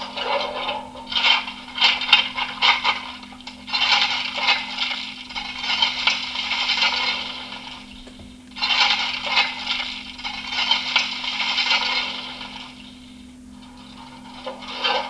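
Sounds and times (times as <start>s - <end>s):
shovel scraping and rattling: 0.0s - 8.0s, 8.6s - 13.0s, 13.6s - 15.0s
faint steady hum: 0.0s - 15.0s.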